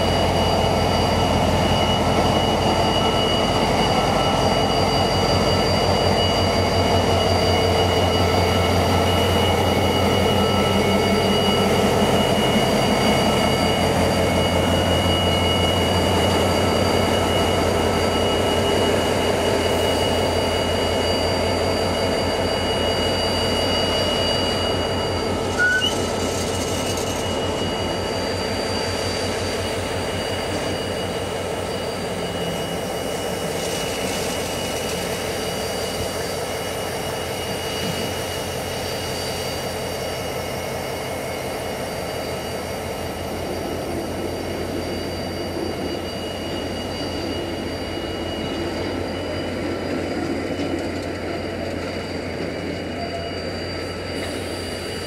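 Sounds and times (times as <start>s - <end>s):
high wheel squeal: 0.0s - 55.0s.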